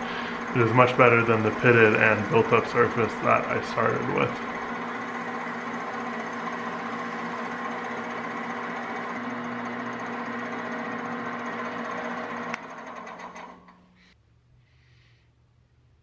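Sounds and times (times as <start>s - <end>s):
lathe motor hum: 0.0s - 14.0s.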